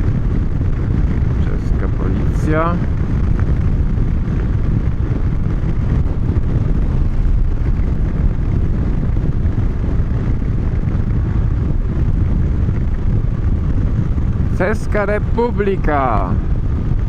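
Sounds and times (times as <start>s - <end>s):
engine and road rumble: 0.0s - 17.0s
wind buffeting microphone: 0.0s - 17.0s.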